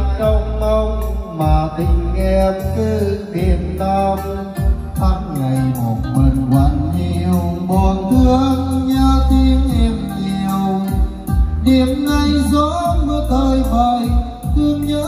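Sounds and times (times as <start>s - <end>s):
karaoke backing music: 0.0s - 15.0s.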